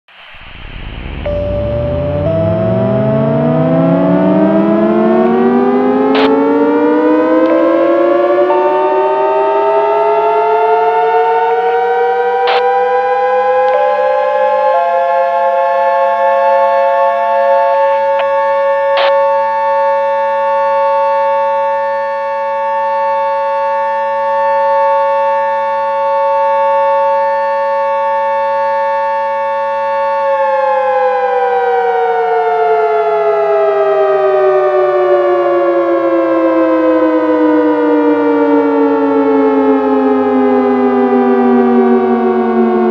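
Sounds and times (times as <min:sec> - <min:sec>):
siren-like alert alarm tone: 0:00.1 - 0:27.6, 0:29.6 - 0:42.9.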